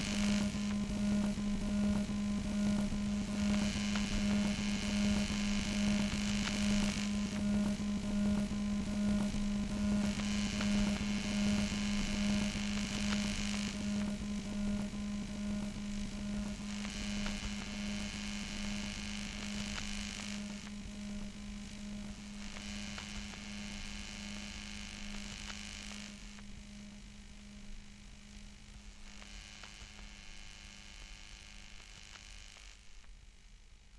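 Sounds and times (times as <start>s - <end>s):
pulsing low buzzing hum: 0.0s - 33.1s.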